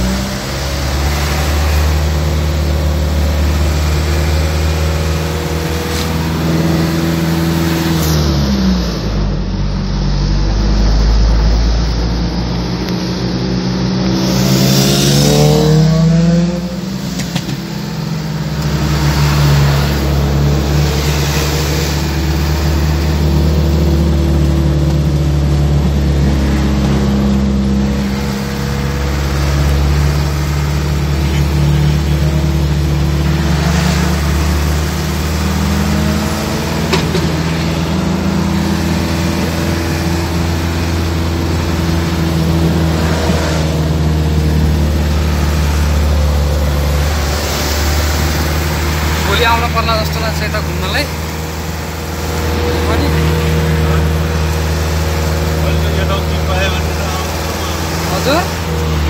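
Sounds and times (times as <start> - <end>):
road noise: 0.0 - 59.0
vehicle engine: 0.0 - 59.0.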